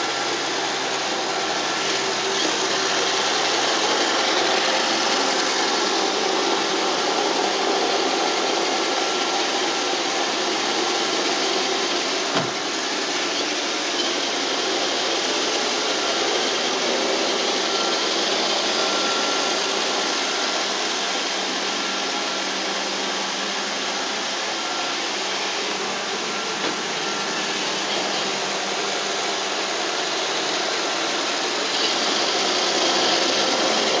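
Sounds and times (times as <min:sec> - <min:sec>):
robot vacuum whirring: 0:00.0 - 0:34.0.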